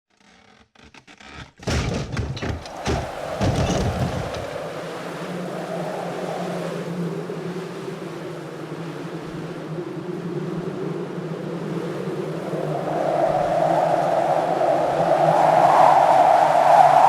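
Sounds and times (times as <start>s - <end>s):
wind whistling: 2.4s - 17.0s.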